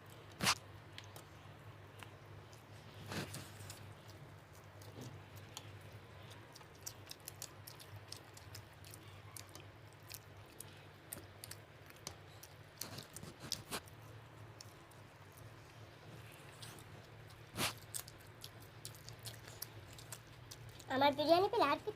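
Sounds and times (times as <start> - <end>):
person chewing with mouth smacks: 0.0 - 20.9.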